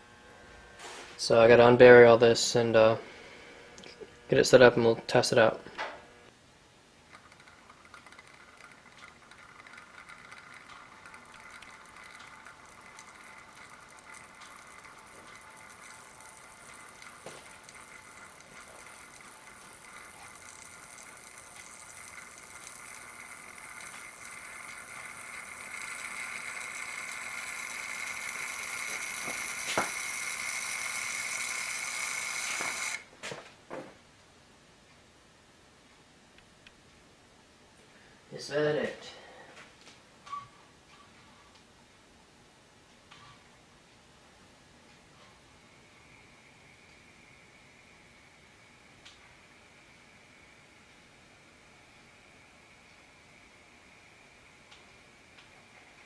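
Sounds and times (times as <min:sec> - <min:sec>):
electrical buzz hum: 0:00.0 - 0:56.0.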